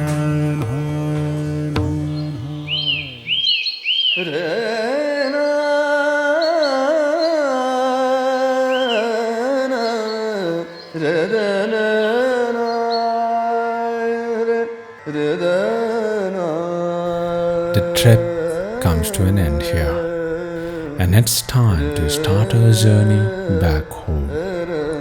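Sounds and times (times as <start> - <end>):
indian classical melody: 0.0 - 25.0.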